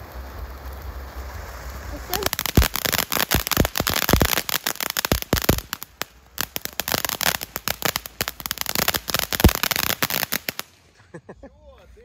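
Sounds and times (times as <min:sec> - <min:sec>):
firework bang: 0:00.0 - 0:10.6
firework crackling and popping: 0:00.0 - 0:11.0.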